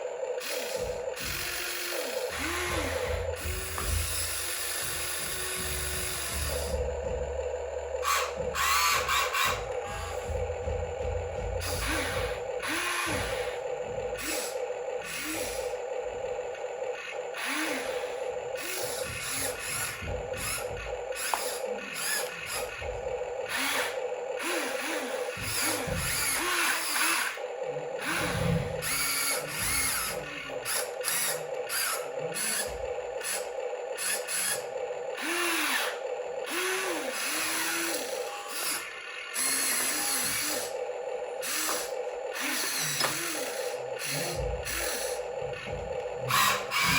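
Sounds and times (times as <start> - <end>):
small electric motors whining: 0.0 - 46.9
steady hum: 0.0 - 46.9.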